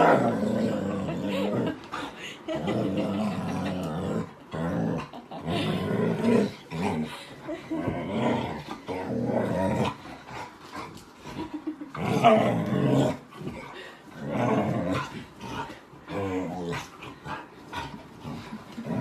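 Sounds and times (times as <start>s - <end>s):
dog growling: 0.0s - 1.8s, 2.5s - 10.6s, 11.9s - 19.0s.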